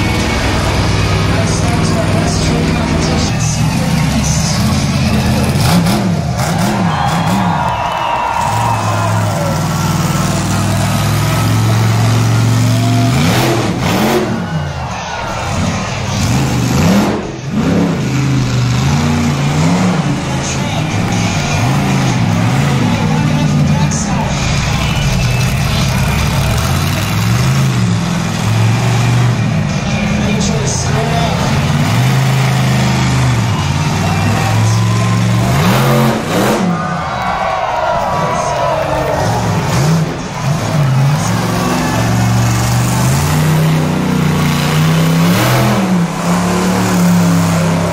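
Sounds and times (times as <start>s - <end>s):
monster truck engine revving: 0.0s - 47.9s.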